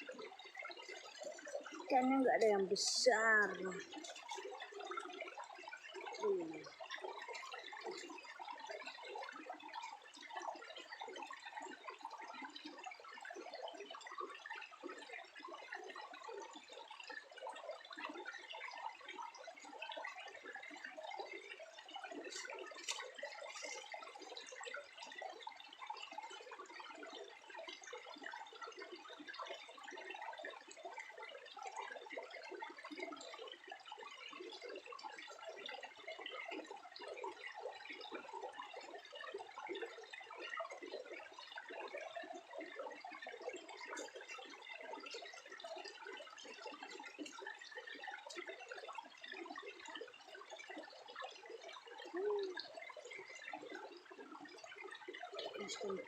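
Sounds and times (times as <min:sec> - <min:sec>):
trickling splashing water: 0:00.0 - 0:56.0.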